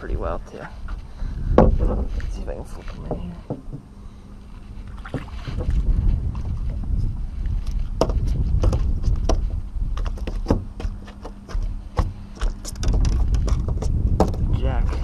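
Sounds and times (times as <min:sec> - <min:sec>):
wind on microphone: 0:00.0 - 0:15.0
fish flopping on boat deck: 0:01.6 - 0:15.0.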